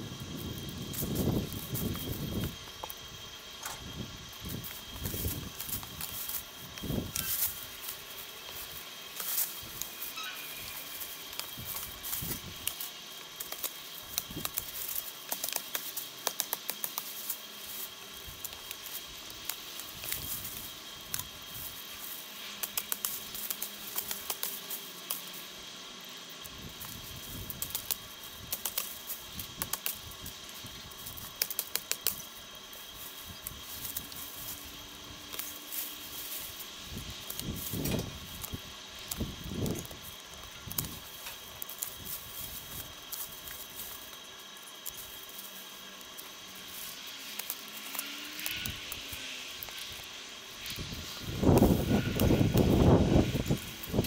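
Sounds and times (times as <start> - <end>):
leaves rustling: 0.0 - 54.0
branches snapping and clicking: 0.4 - 25.5, 26.4 - 54.0.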